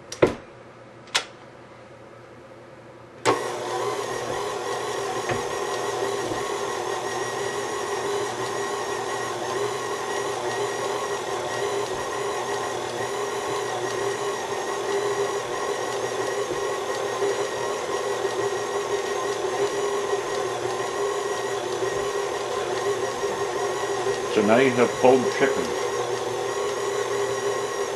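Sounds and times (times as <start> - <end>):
stand mixer motor humming: 3.3 - 27.9.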